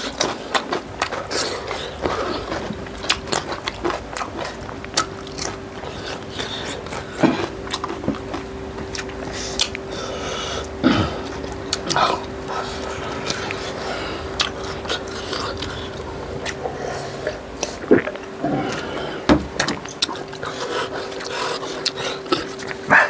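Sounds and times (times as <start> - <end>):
biting and wet chewing: 0.0 - 23.0
faint steady hum: 0.0 - 23.0.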